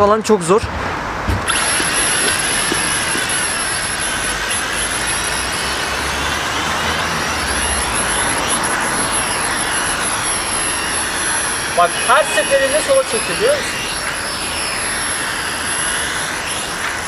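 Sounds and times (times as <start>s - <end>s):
toy drone motors whining: 1.4s - 17.0s.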